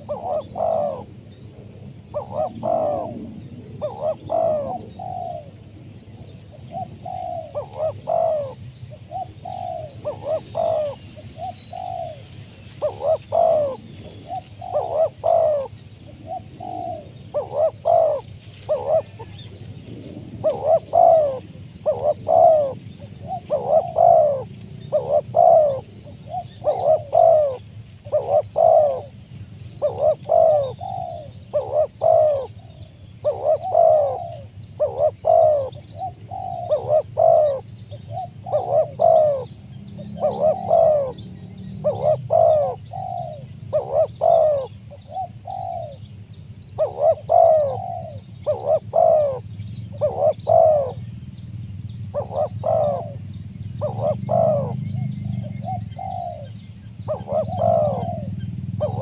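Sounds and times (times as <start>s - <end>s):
dove cooing: 0.0s - 59.0s
small birds chirping: 0.0s - 59.0s.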